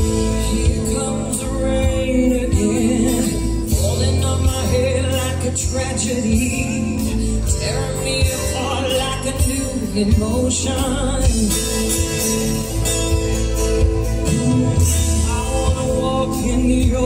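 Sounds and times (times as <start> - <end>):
live amplified band music: 0.0 - 17.0
woman singing into a microphone: 0.1 - 11.9, 14.4 - 17.0.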